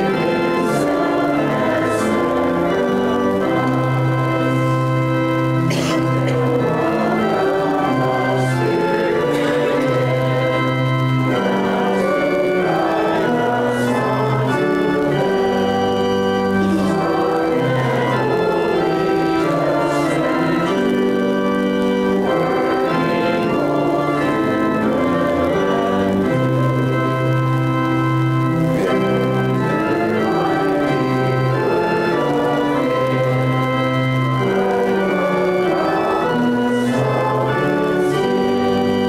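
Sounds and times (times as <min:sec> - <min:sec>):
church organ playing a hymn: 0:00.0 - 0:39.0.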